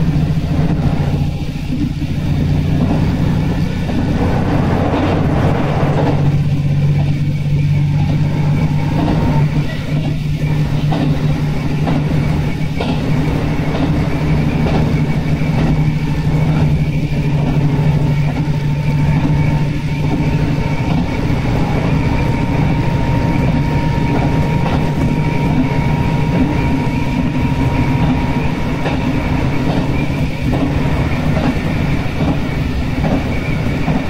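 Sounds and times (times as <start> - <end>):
diesel railcar engine hum: 0.0 - 34.0
wheels rolling on track: 0.0 - 34.0.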